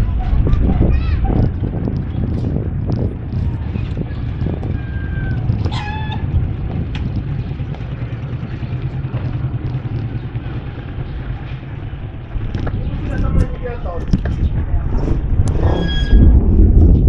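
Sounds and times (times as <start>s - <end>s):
vehicle rumbling along a street: 0.0s - 17.0s.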